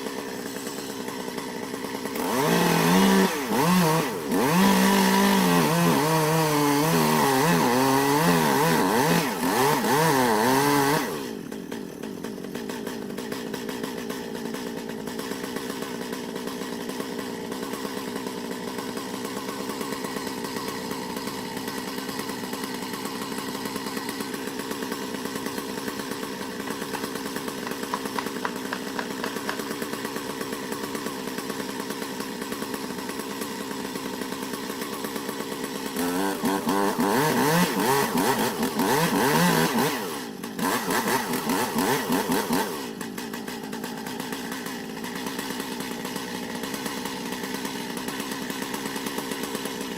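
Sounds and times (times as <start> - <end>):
two-stroke chainsaw running: 0.0 - 49.9.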